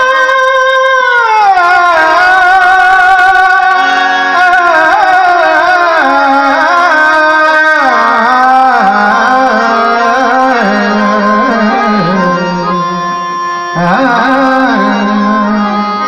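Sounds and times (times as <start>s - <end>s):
harmonium: 0.0s - 16.0s
man singing devotional song: 0.0s - 16.0s
tabla: 0.0s - 16.0s.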